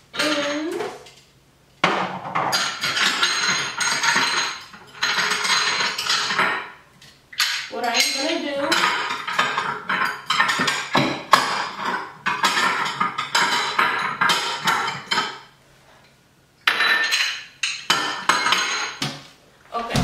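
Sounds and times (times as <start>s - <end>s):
dishes clattering and clinking: 0.1s - 1.2s, 1.8s - 15.6s, 16.6s - 20.0s.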